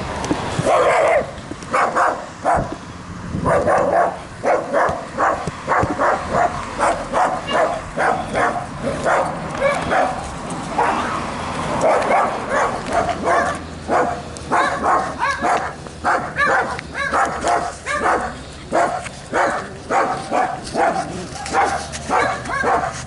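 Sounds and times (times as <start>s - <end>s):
small dog barking: 0.6s - 2.7s, 3.4s - 10.2s, 10.8s - 11.2s, 11.8s - 23.0s.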